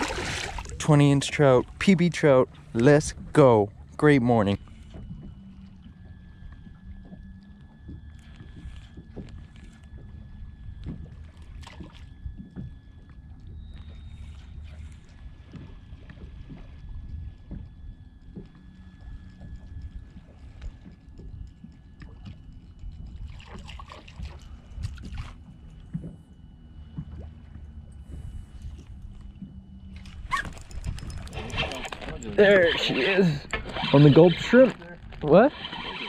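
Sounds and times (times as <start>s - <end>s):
water lapping against kayak hull: 0.0s - 36.0s
wind rumble on microphone: 0.0s - 36.0s.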